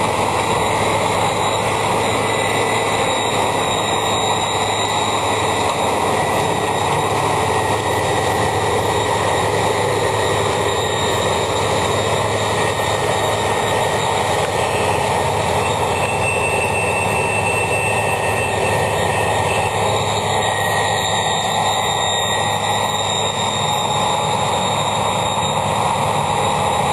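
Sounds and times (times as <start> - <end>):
combine harvester drone: 0.0 - 26.9
high whine: 0.0 - 26.9.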